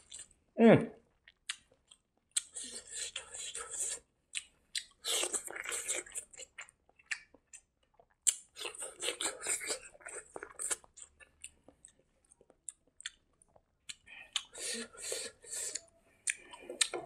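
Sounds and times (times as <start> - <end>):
mouth chewing with wet smacks: 1.1 - 17.0.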